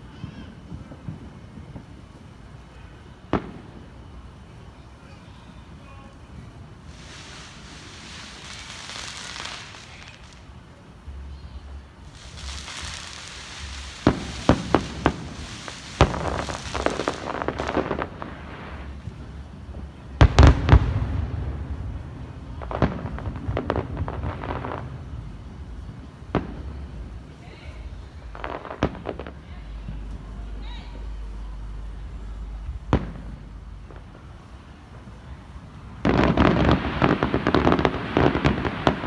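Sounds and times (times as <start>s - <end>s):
fireworks bangs and booms: 0.0s - 39.0s
fireworks crackling: 0.0s - 39.0s
fireworks hissing: 0.0s - 39.0s.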